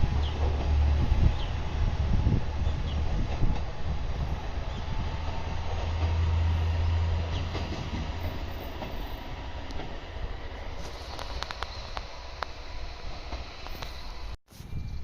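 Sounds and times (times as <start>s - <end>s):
train engine rumble: 0.0s - 14.4s
train wheels on rails: 0.0s - 14.4s.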